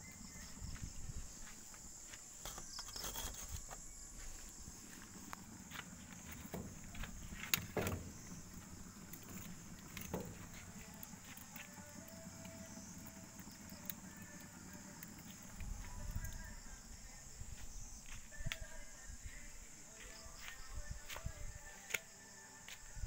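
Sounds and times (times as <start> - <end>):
high-pitched insect chirring: 0.0 - 19.1.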